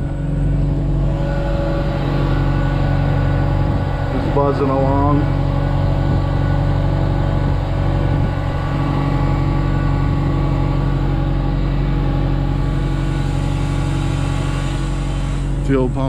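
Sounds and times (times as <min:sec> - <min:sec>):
electric fuel pump buzzing: 0:00.0 - 0:16.0
engine running: 0:00.0 - 0:16.0.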